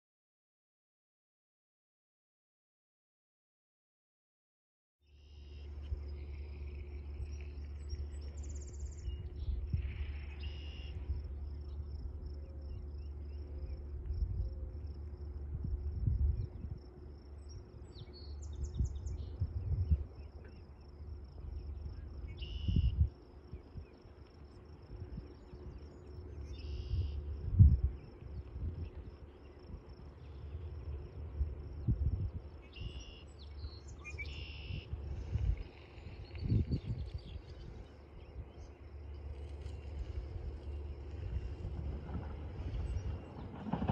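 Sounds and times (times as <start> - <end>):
pulsing insect trill: 5.2 - 41.8
wind rumbling on microphone: 5.7 - 43.9.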